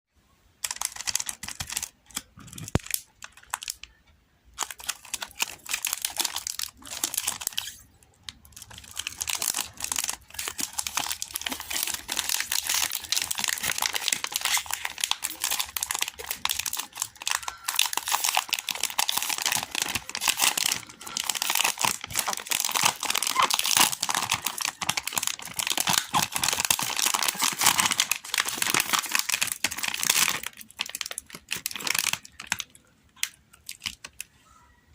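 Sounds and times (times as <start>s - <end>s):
wrappers crinkling and tearing: 0.6s - 4.0s, 4.6s - 34.3s.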